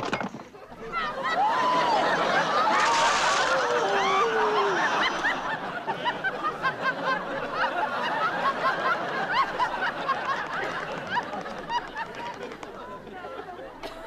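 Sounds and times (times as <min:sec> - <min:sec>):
audience laughing: 0:00.7 - 0:13.9.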